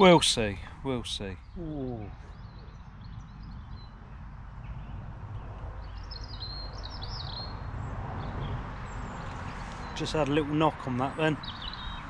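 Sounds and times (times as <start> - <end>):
bird chirps: 0.0 - 12.0
low outdoor rumble: 0.0 - 12.0
songbird singing: 0.0 - 12.0.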